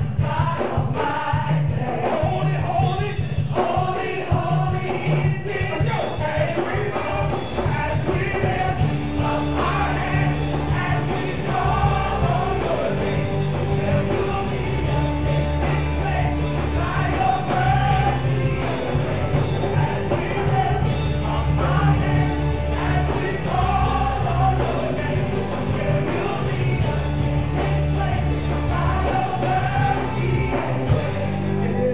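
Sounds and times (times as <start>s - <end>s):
band with bass and drums: 0.0s - 31.9s
group singing long held notes: 0.0s - 31.9s.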